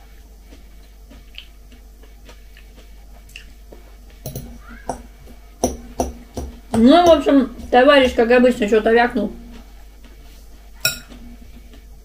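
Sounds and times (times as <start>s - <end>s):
chewing salad crunching: 0.1s - 5.5s, 6.2s - 11.9s.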